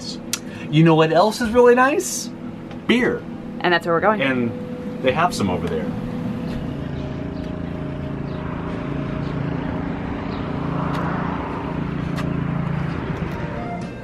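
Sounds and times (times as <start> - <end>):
low mechanical hum: 0.0 - 14.0
traffic noise: 0.0 - 14.0
vehicle passing: 0.0 - 14.0.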